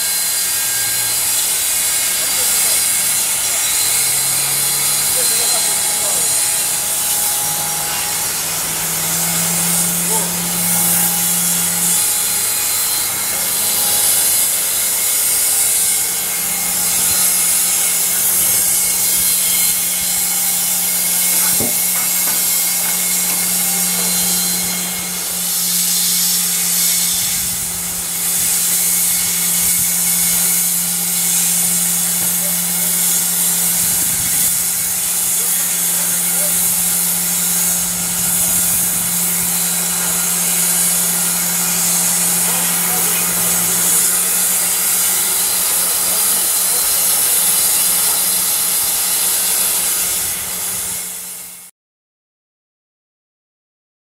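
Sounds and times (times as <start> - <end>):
sawmill low hum: 0.0 - 51.2
band saw cutting log: 0.0 - 51.7.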